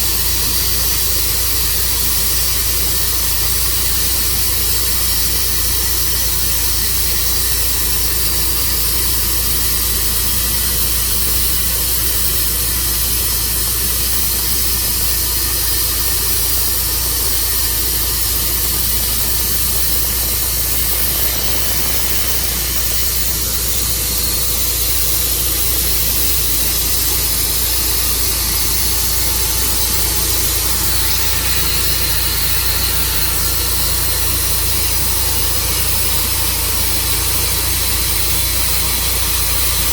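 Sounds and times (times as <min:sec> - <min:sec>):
saw hissing through log: 0:00.0 - 0:39.9
sawmill engine drone: 0:00.0 - 0:39.9.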